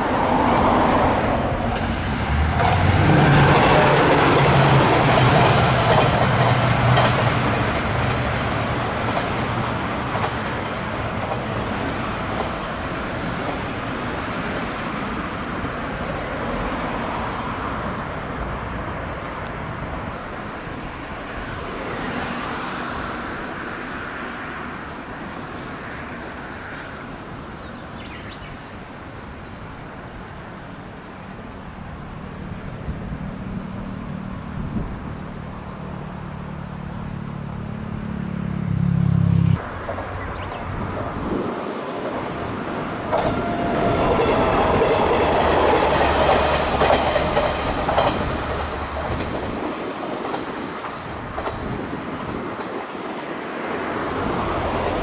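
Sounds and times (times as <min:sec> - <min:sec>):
diesel train passing: 0:00.0 - 0:55.0.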